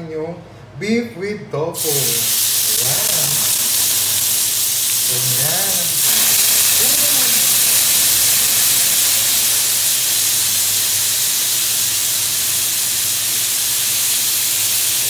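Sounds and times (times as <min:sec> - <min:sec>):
food sizzling on a hot plate: 0:01.8 - 0:15.0.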